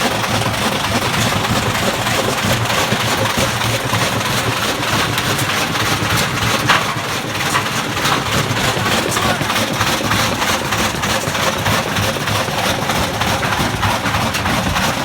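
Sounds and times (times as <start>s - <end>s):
washing machines spinning and banging: 0.0s - 15.0s.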